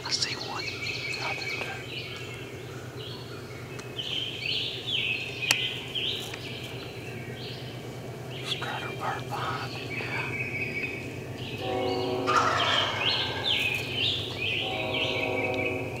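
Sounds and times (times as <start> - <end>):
low bird notes: 0.0 - 16.0
songbirds chirping: 0.0 - 16.0.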